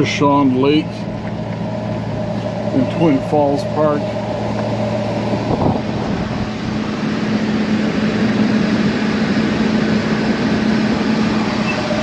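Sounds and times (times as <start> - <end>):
car driving on rough road: 0.0 - 12.0.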